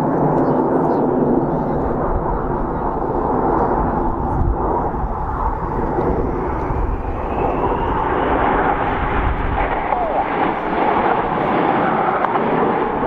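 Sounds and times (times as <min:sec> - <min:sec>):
jet rumble: 0:00.0 - 0:13.0
faint jet whine rising: 0:01.8 - 0:13.0.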